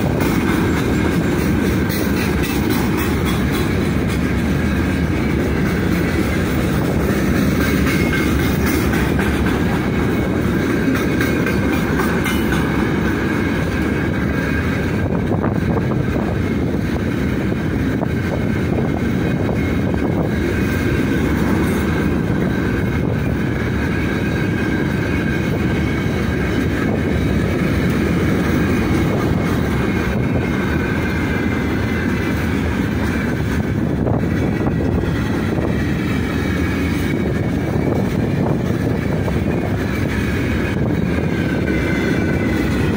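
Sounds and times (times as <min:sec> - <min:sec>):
steel wheels rumbling on rails: 0:00.0 - 0:42.9.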